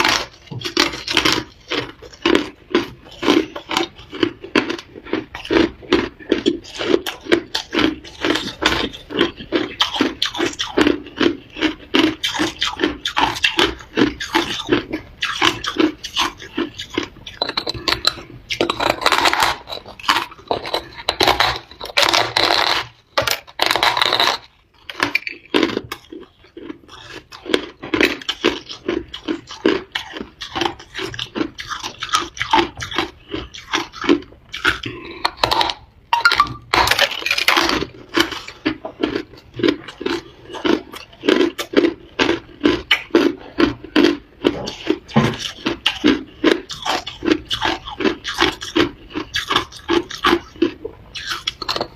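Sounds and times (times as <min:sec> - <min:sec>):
ice bitten and crunched: 0:00.0 - 0:51.9.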